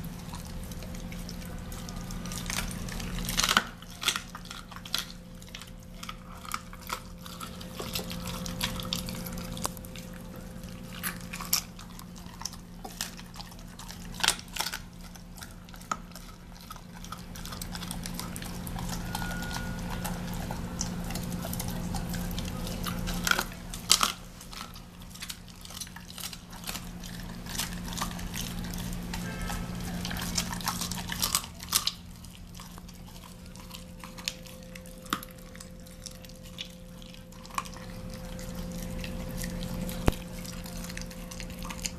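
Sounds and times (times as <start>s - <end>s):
dog chewing with sharp crunches: 0.0s - 41.9s
steady low hum: 0.0s - 41.9s.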